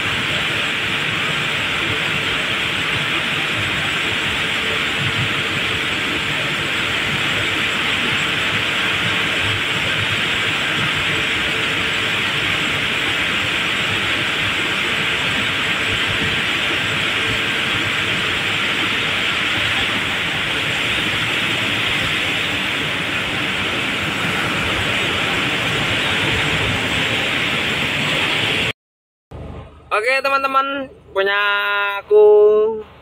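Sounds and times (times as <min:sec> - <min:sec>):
machinery noise with hiss: 0:00.0 - 0:28.7.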